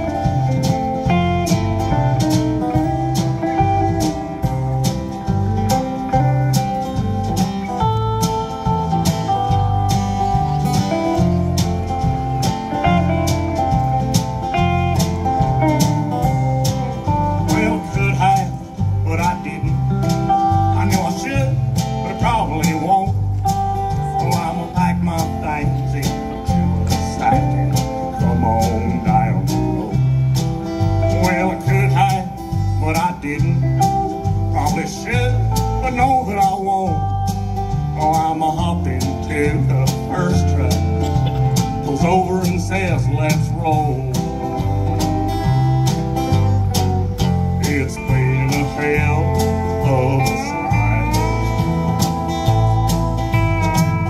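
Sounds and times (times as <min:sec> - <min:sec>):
drum kit steady beat: 0:00.0 - 0:54.0
electric and acoustic guitars: 0:00.0 - 0:54.0
pedal steel guitar: 0:00.0 - 0:54.0.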